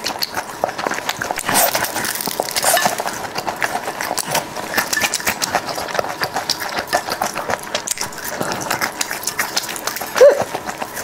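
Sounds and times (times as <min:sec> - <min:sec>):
crunching and chewing: 0:00.0 - 0:11.0.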